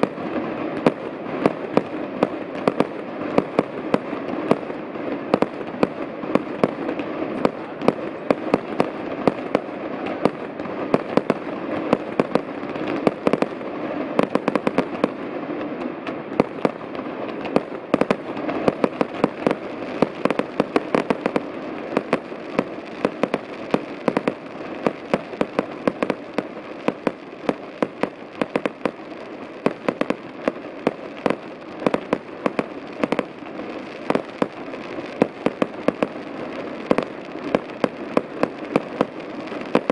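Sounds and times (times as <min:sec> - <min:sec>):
fireworks banging: 0:00.0 - 0:39.9.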